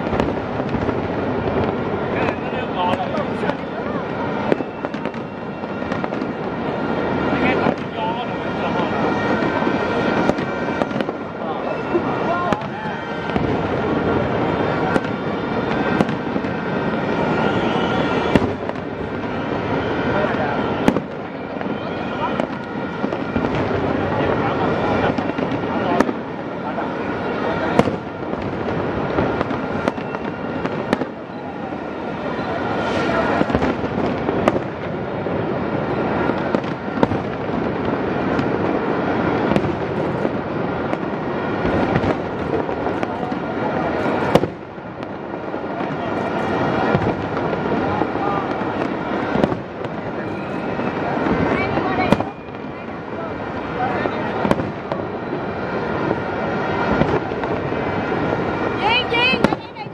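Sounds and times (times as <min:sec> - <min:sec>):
firework bangs: 0:00.0 - 0:59.9
fireworks crackling and popping: 0:00.0 - 0:59.9.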